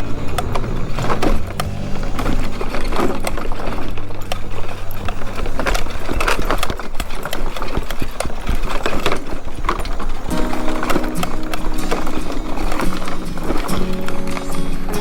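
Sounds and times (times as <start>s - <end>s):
motor scooter engine hum: 0.0s - 15.0s
scooter knocking and rattling: 0.0s - 15.0s.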